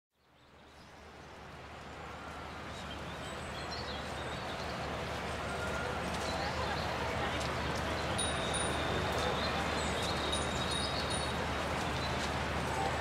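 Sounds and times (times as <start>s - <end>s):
distant city traffic hum: 0.5s - 13.0s.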